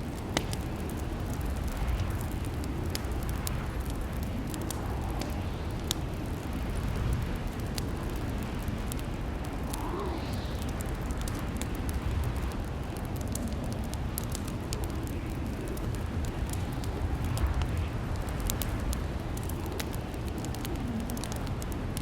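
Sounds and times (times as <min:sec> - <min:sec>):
log fire crackling: 0:00.0 - 0:22.0.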